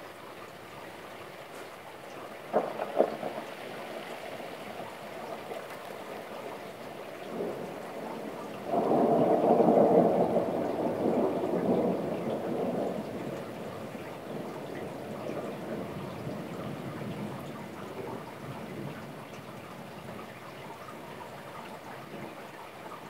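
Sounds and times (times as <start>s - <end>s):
steady rain: 0.0s - 23.0s
thunder rumble: 2.3s - 22.5s.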